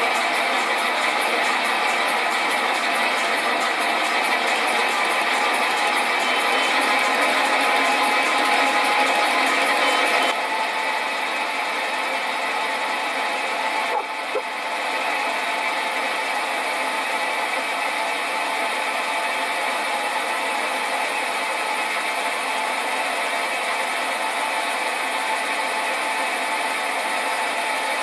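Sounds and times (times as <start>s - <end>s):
bench lathe running: 0.0s - 28.0s.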